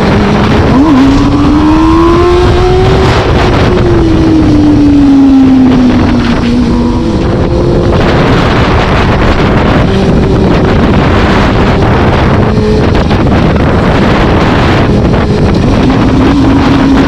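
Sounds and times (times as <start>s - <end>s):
vehicle engine: 0.0s - 17.0s
wind rushing over microphone: 0.0s - 17.0s.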